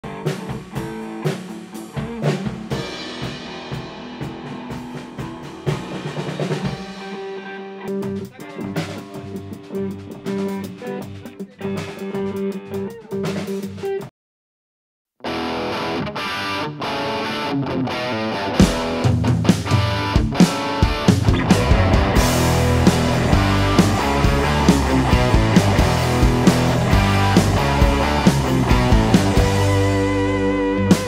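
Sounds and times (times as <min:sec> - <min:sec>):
drum kit with cymbals: 0:00.0 - 0:14.1, 0:18.6 - 0:31.0
electric guitar: 0:00.0 - 0:14.1, 0:15.2 - 0:31.0.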